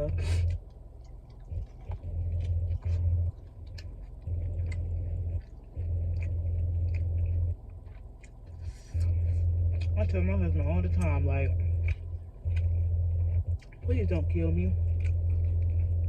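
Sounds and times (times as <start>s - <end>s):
low hum: 0.0s - 16.0s
chewing and wet mouth clicks: 0.2s - 16.0s.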